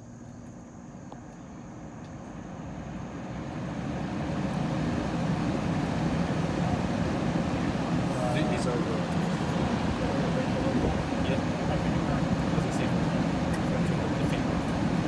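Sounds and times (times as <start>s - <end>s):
air conditioner fan rushing air: 0.0s - 15.0s.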